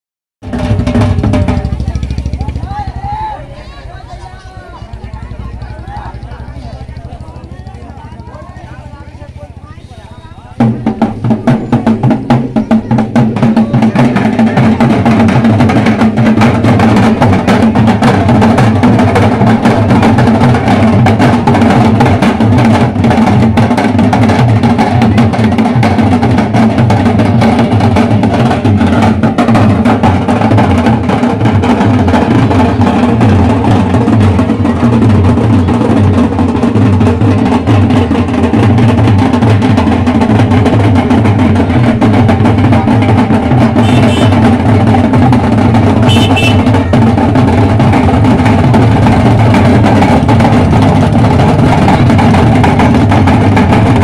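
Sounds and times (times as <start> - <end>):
loud drum-heavy music: 0.4 - 54.0.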